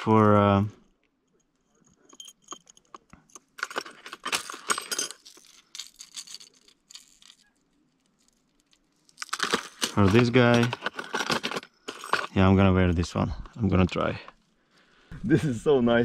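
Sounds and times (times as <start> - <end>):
plastic lures and hooks rattling: 1.5 - 14.6.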